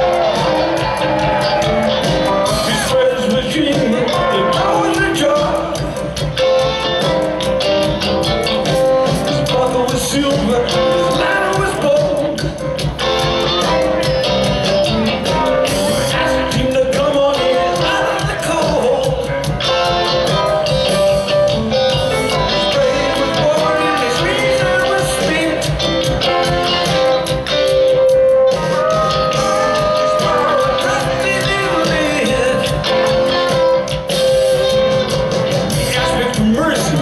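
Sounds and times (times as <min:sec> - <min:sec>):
drum kit with cymbals: 0:00.0 - 0:37.0
electric guitar: 0:00.0 - 0:37.0.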